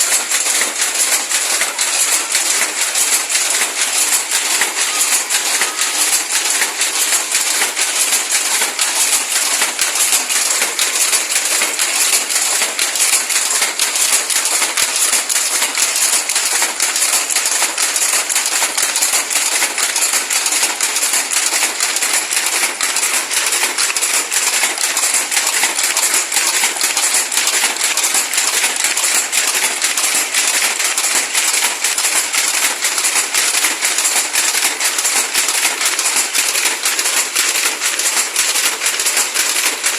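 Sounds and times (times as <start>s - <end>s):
weaving loom clattering: 0.0s - 39.9s.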